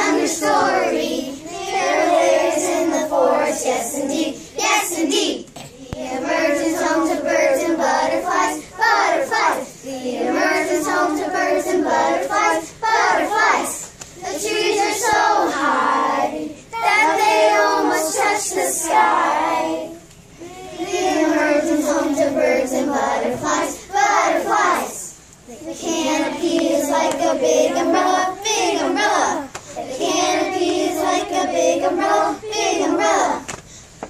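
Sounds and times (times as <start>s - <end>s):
children singing together: 0.0s - 33.5s.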